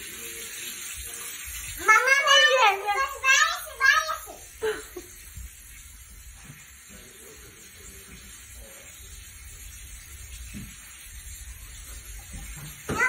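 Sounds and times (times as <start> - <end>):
bathroom tap running: 0.0 - 13.0.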